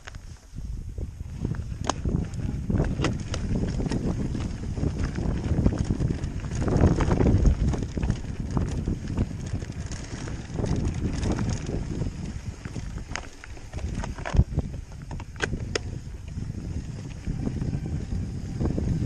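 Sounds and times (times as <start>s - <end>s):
bike rattling: 0.0s - 19.0s
wind rumbling on microphone: 0.0s - 19.0s
tyres crunching over gravel: 1.5s - 18.0s.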